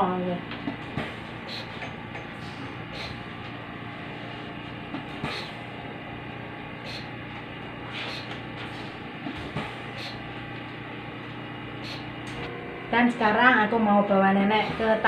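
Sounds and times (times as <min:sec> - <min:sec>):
oxygen concentrator humming: 0:00.0 - 0:15.0.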